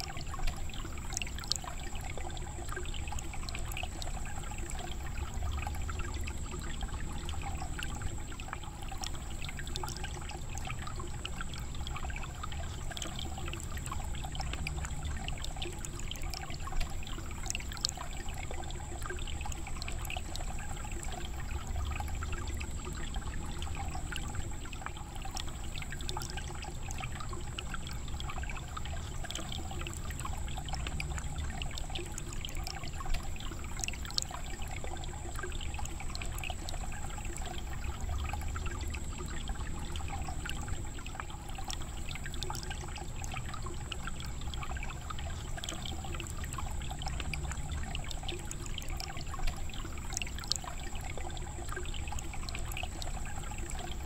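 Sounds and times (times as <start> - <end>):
water pouring into a pool: 0.0 - 54.0.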